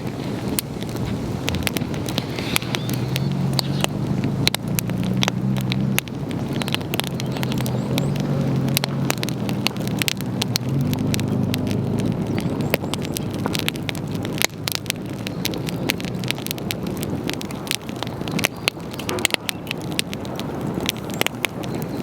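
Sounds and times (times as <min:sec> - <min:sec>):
campfire crackling: 0:00.0 - 0:22.0
low engine hum: 0:00.0 - 0:22.0.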